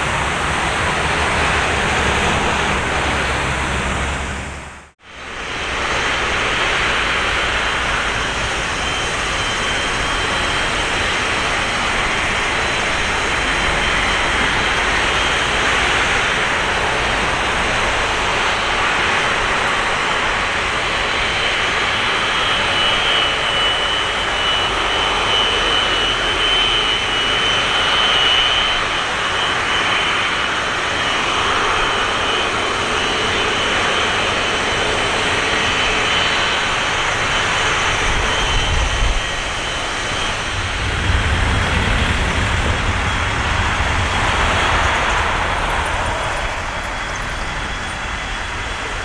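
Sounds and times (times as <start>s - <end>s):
high jet whine: 0.0s - 49.0s
jet engine roar: 0.0s - 49.0s.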